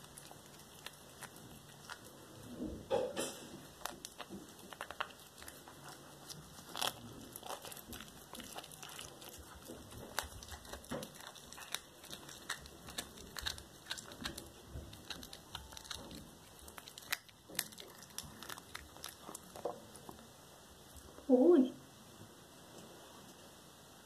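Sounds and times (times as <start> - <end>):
cat chewing crunchily: 0.0 - 21.2.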